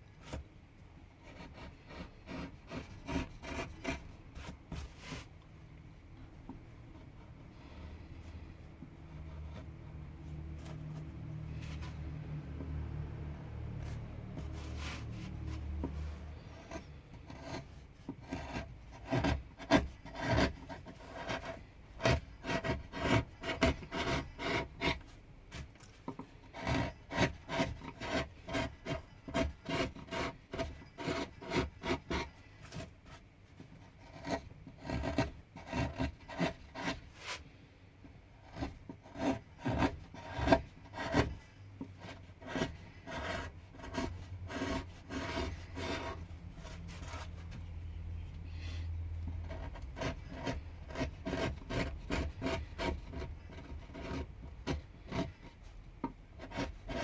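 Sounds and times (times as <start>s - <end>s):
carving tool scraping wood: 0.2s - 0.5s, 1.2s - 5.4s, 6.2s - 47.9s, 49.2s - 57.0s.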